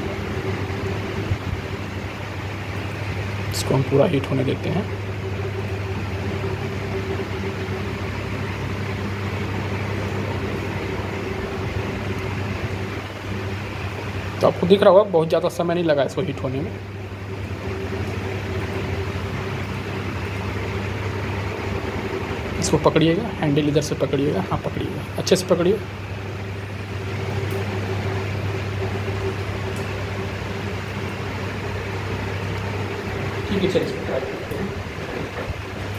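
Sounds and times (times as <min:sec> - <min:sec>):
low machine hum with held tones: 0:00.0 - 0:35.9.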